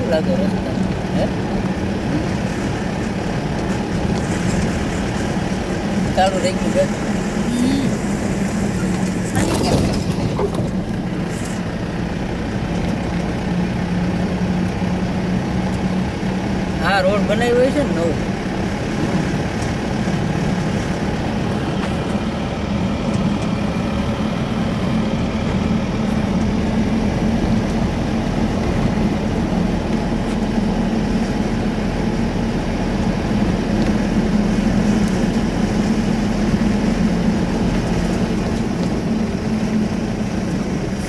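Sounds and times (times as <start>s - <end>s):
road noise: 0.0s - 41.0s
vehicle engine hum: 0.0s - 41.0s.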